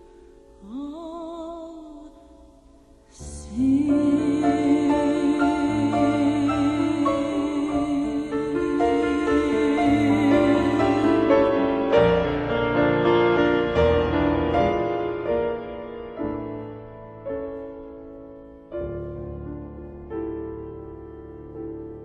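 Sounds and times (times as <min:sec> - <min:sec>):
piano chords ringing: 0:02.4 - 0:22.0.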